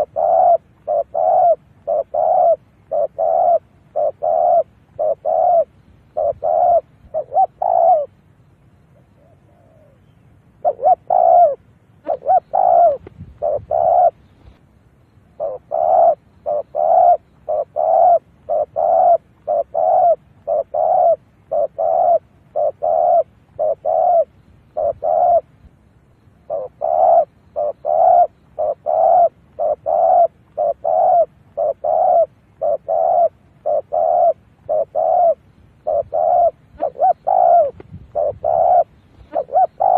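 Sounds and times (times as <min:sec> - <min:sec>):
dove cooing: 0:00.0 - 0:14.6, 0:15.3 - 0:25.6, 0:26.4 - 0:39.9.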